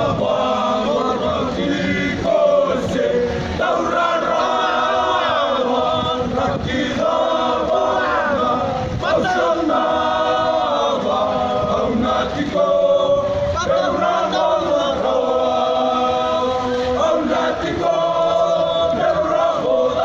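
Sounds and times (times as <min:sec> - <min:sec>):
men singing in harmony: 0:00.0 - 0:20.0.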